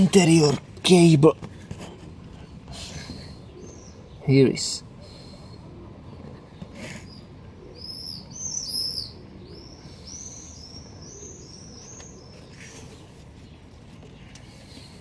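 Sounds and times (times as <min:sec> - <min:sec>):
bird chirping: 0:02.5 - 0:15.0.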